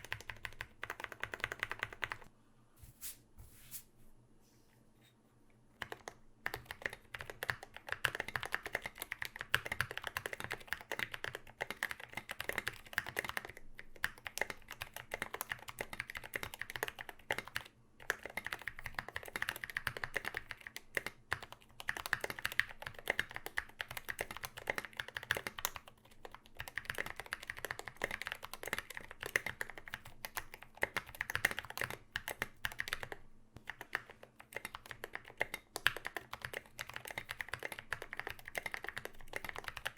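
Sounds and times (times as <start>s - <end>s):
mechanical keyboard typing: 0.0s - 2.3s, 5.8s - 39.9s.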